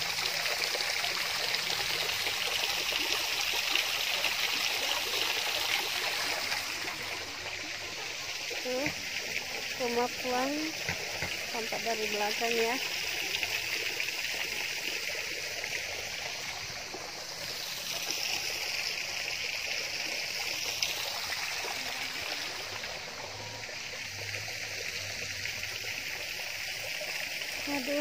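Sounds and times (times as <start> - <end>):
water trickling in a channel: 0.0 - 28.0.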